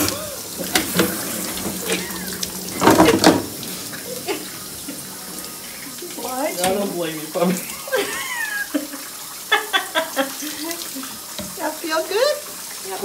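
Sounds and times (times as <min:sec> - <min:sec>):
water running into a bathtub: 0:00.0 - 0:13.0
water splashing: 0:00.0 - 0:13.0.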